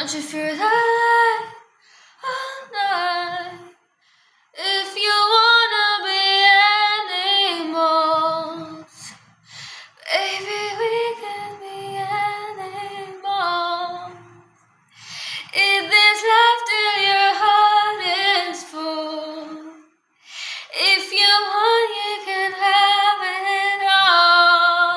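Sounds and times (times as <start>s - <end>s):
woman singing: 0.0s - 3.8s, 4.6s - 9.2s, 9.8s - 24.9s.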